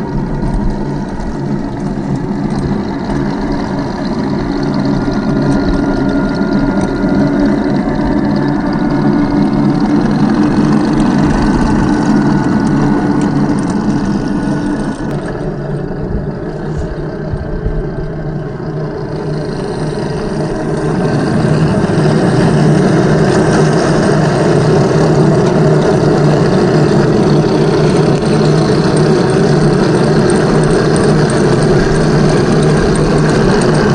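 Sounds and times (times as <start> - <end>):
toy tank engine sound: 0.0 - 33.9
toy tank tracks: 0.0 - 33.9.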